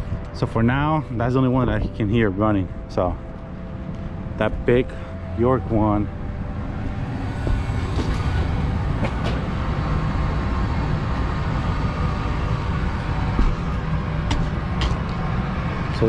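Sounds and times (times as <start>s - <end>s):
blower fan low rumble: 0.0s - 16.0s.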